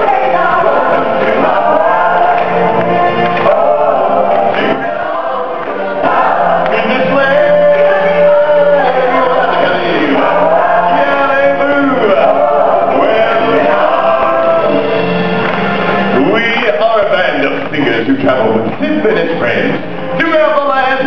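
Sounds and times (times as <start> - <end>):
choir singing stage music: 0.0 - 19.9.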